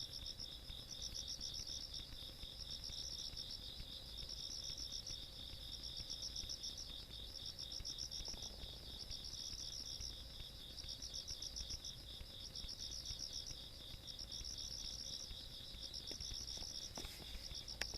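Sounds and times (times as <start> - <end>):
insect steady pulsing chirp: 0.0 - 17.9.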